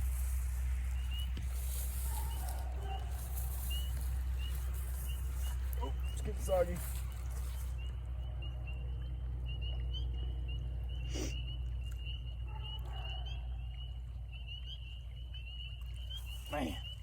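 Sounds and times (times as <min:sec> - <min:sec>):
frogs peeping: 0:00.0 - 0:17.0
steady low rumble: 0:00.0 - 0:17.0.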